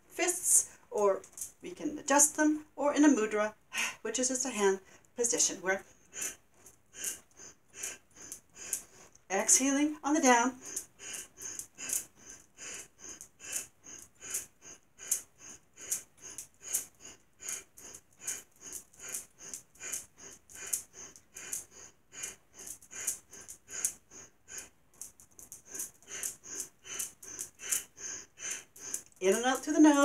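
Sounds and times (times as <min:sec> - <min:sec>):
rapid forceful nose breathing: 0:03.8 - 0:30.0.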